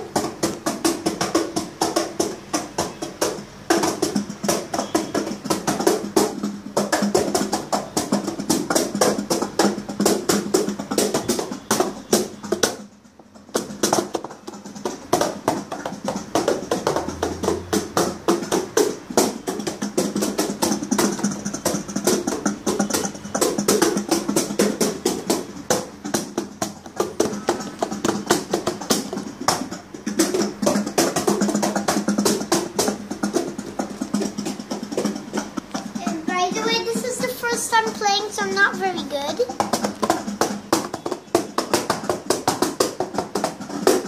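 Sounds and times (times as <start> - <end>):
hand drumming on a cajon: 0.0 - 44.0.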